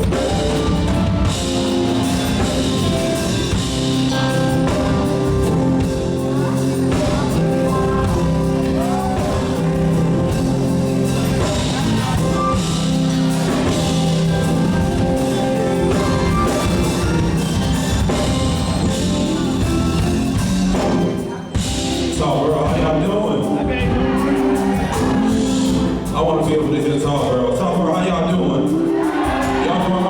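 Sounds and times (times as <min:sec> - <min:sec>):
drum kit: 0:00.0 - 0:30.0
gospel band playing: 0:00.0 - 0:30.0
guitar: 0:00.0 - 0:30.0.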